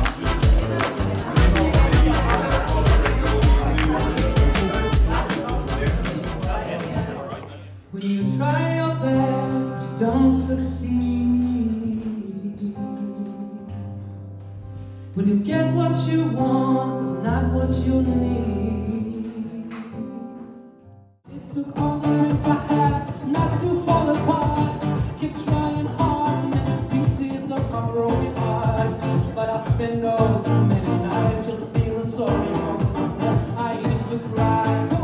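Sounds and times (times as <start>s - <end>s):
music with singing: 0.0s - 20.5s, 21.3s - 35.0s.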